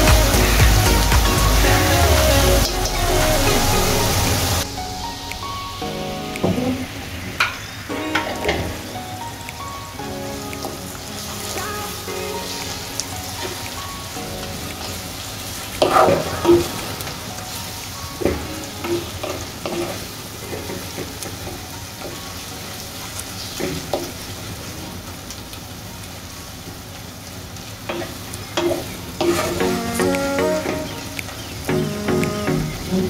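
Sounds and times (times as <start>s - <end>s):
onions sizzling in oil: 4.4s - 32.9s.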